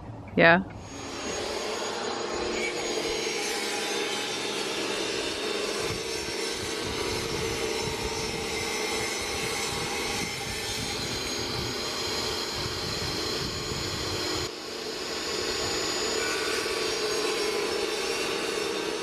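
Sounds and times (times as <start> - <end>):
power tool motor whine: 0.7 - 19.0.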